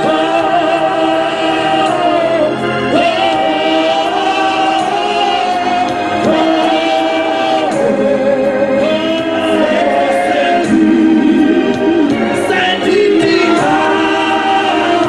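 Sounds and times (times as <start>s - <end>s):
choir singing a gospel song: 0.0s - 15.0s.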